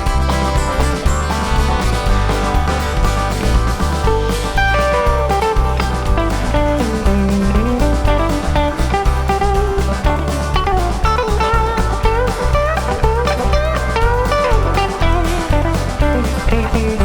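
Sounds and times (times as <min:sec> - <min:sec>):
blues-rock band playing: 0:00.0 - 0:17.0
electric guitar lead: 0:00.0 - 0:17.0.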